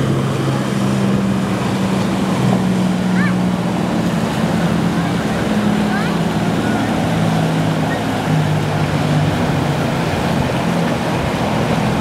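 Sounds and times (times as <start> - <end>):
boat engines droning: 0.0 - 12.0
rushing wind: 0.0 - 12.0
water noise: 0.0 - 12.0.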